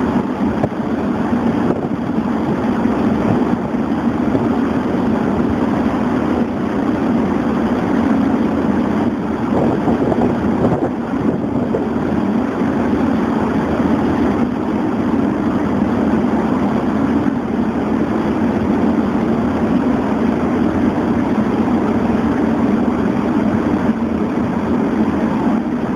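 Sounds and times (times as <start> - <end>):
boat engines droning: 0.0 - 25.9
rushing water: 0.0 - 25.9
wind: 0.0 - 25.9.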